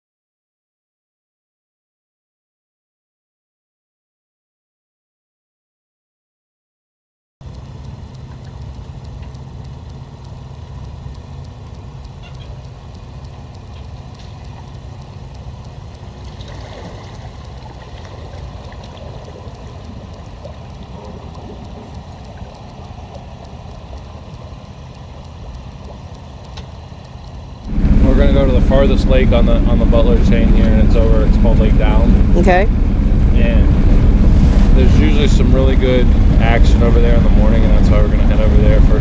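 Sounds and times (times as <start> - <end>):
engine idling: 7.4 - 39.0.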